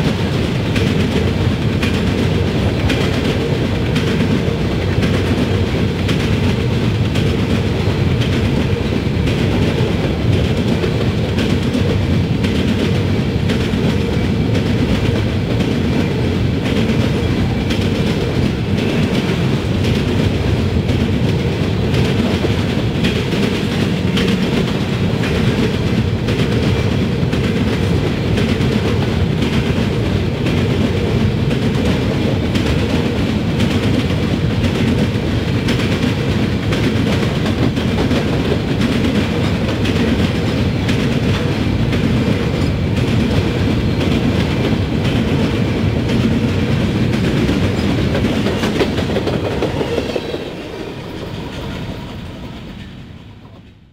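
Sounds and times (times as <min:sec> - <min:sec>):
wheels clacking over rail joints: 0:00.0 - 0:53.7
train wheels rumbling on rail: 0:00.0 - 0:53.9.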